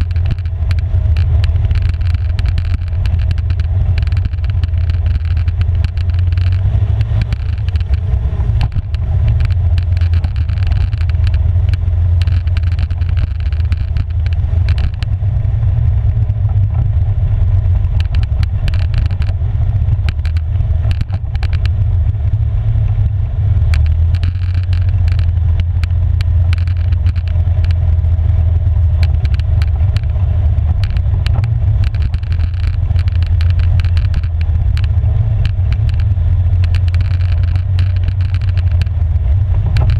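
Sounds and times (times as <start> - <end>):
tyres clicking on gravel: 0.0 - 15.1, 17.8 - 21.9, 23.7 - 39.9
atv engine rumbling: 0.0 - 39.9.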